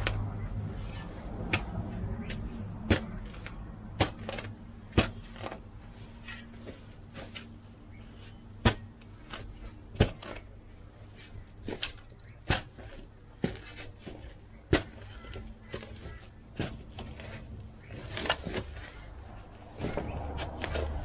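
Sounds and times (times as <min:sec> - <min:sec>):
digging tool striking ground: 0:00.9 - 0:07.5, 0:08.5 - 0:10.5, 0:11.6 - 0:19.1, 0:19.7 - 0:21.0.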